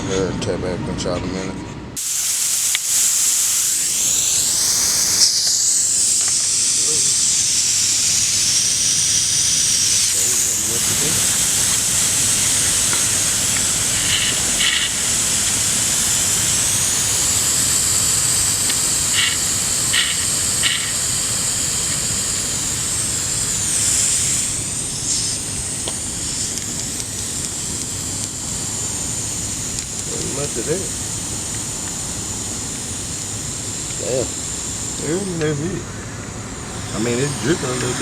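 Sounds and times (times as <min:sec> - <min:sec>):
refrigerant hissing: 0:02.0 - 0:38.0.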